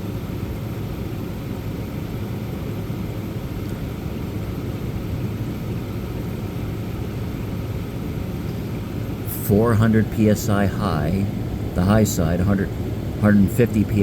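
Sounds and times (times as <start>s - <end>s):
compressor hum: 0.0s - 14.0s
fan air noise: 0.0s - 14.0s.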